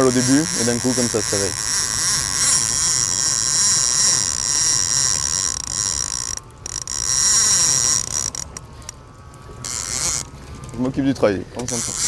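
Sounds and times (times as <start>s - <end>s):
fishing reel drag buzzing: 0.0s - 10.9s, 11.6s - 12.0s.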